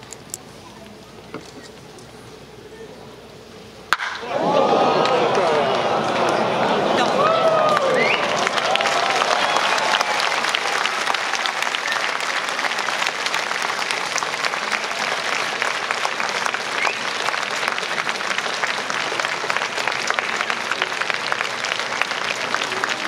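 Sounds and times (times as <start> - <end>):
crowd applauding: 4.1 - 23.0.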